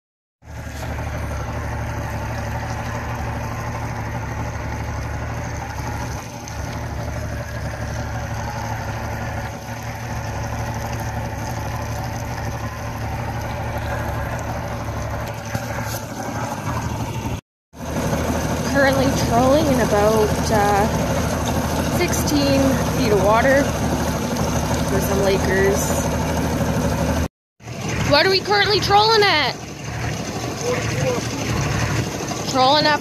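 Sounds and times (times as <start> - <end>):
boat engine running slowly: 0.4 - 33.0.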